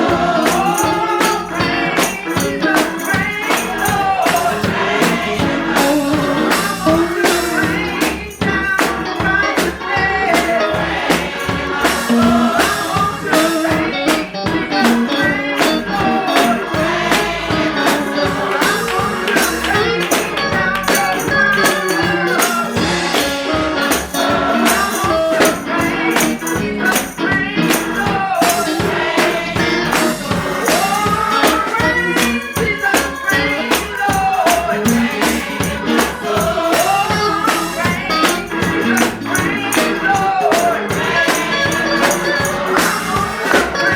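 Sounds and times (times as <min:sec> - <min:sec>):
band playing: 0:00.0 - 0:43.9
people singing gospel: 0:00.0 - 0:43.9
tambourine beat: 0:00.0 - 0:43.9.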